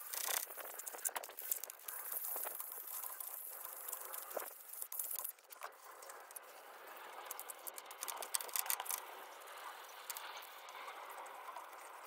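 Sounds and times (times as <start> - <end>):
sharp ticks and scrapes: 0.0 - 12.0.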